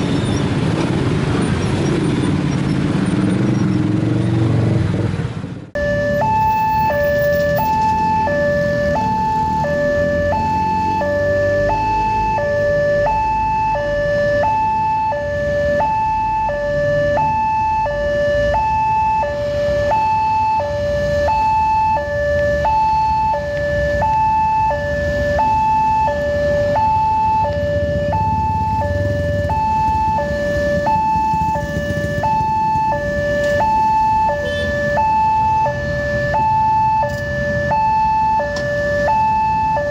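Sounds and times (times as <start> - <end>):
road traffic rumble: 0.0 - 39.9
two-tone level-crossing alarm: 5.8 - 39.9.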